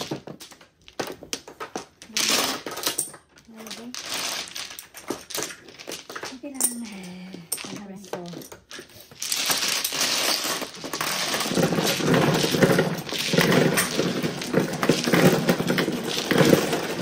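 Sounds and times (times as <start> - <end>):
heavier tile clacks: 0.0 - 17.0
mahjong tiles clattering: 0.0 - 17.0.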